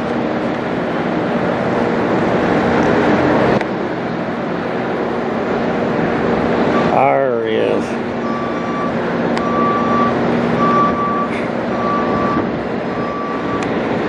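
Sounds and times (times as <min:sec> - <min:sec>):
jet engine roar overhead: 0:00.0 - 0:14.0.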